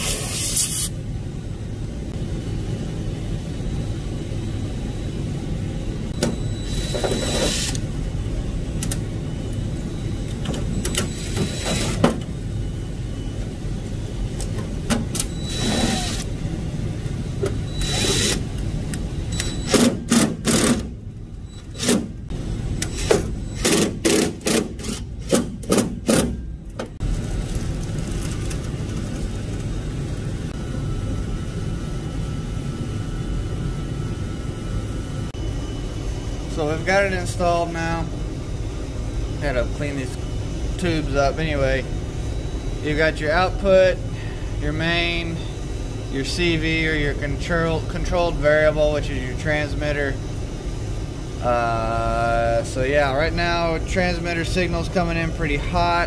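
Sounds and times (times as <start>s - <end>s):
mechanical equipment rumble: 1.0s - 56.0s.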